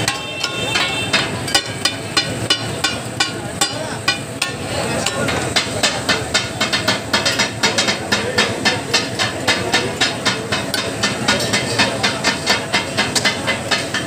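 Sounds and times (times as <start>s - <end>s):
steel spatulas clacking on griddle: 0.0s - 14.0s.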